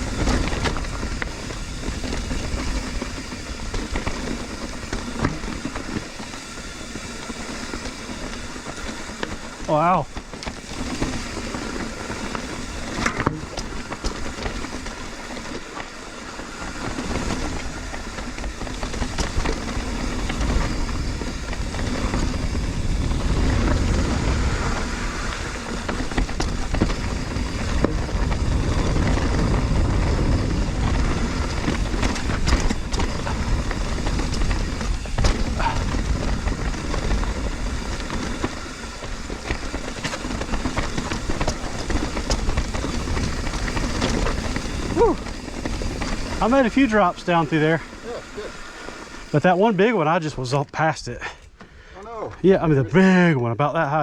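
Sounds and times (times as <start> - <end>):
bike tyres rumbling over rock: 0.0 - 51.4
bike rattling and knocking: 0.0 - 52.8.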